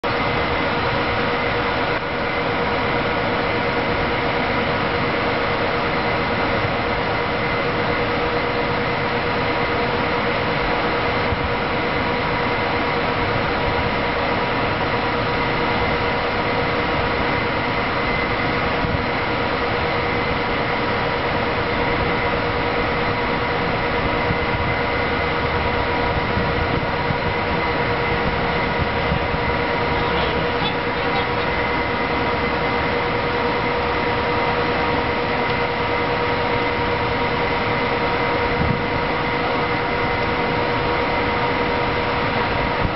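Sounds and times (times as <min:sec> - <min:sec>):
constant whining tones: 0:00.0 - 0:42.9
locomotive cooling blowers: 0:00.0 - 0:42.9.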